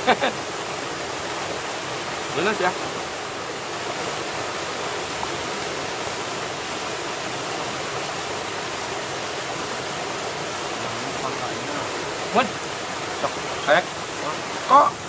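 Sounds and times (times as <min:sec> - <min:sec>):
waterfall pouring over rock: 0:00.0 - 0:15.0.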